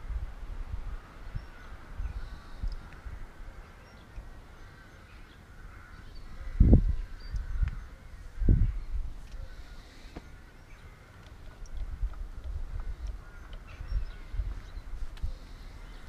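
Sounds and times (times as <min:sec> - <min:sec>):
faint bird calls: 0:00.9 - 0:16.0.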